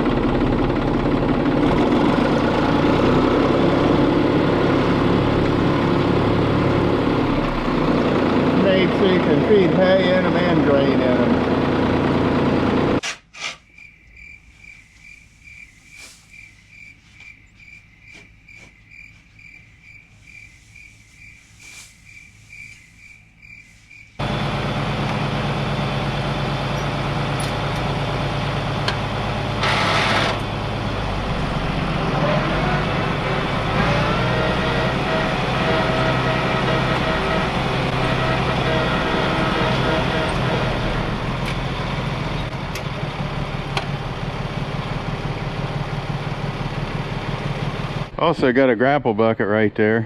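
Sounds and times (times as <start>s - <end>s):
tractor diesel engine running: 0.0s - 13.0s, 14.2s - 50.0s.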